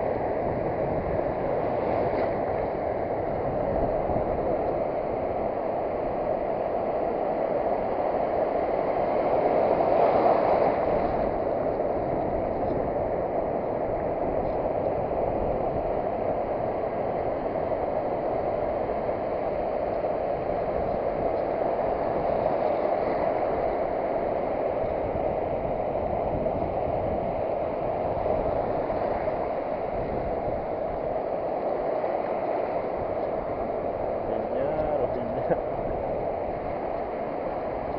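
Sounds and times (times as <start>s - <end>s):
surf breaking on a beach: 0.0s - 37.9s.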